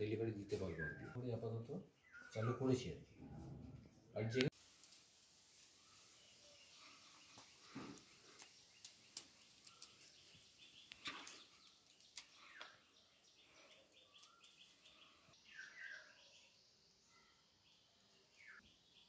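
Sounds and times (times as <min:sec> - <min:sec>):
faint bird chirps: 0:00.4 - 0:03.4, 0:05.8 - 0:19.0.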